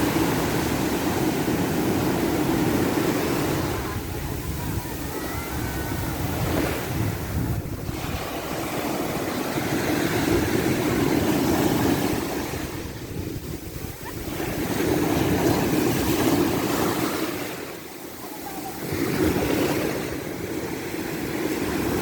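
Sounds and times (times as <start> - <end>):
wind rumble on microphone: 0.0 - 17.7
ocean waves breaking: 0.0 - 22.0.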